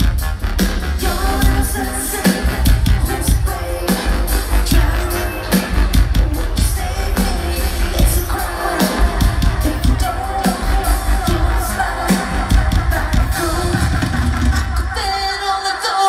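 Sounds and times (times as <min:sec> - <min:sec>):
live band playing synth-pop: 0:00.0 - 0:16.0.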